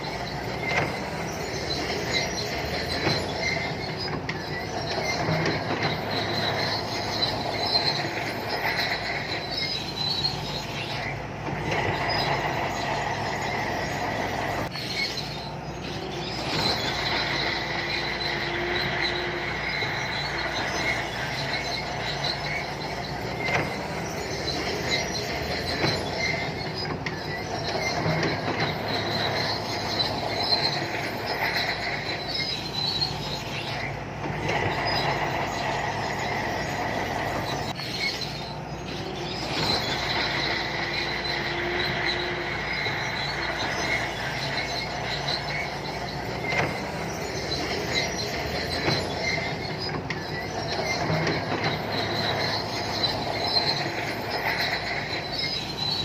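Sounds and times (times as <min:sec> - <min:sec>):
diesel engine running: 0:00.0 - 0:56.0
steel tracks squealing and clattering: 0:00.0 - 0:56.0.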